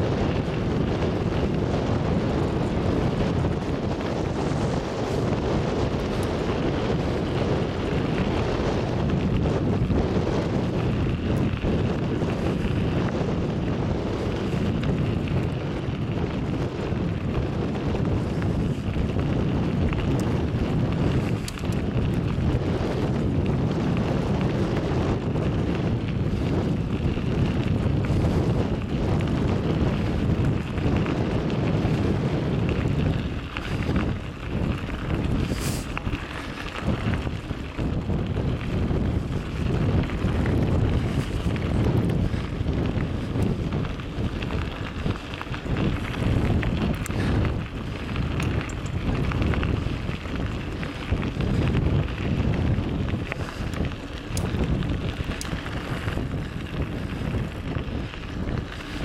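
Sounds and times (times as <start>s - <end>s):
moving vehicle rumble: 0.0s - 59.0s
wind buffeting microphone: 0.0s - 59.0s.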